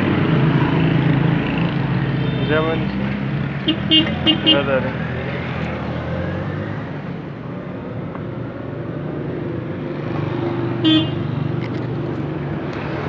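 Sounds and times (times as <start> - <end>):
vehicle engines humming: 0.0 - 13.0.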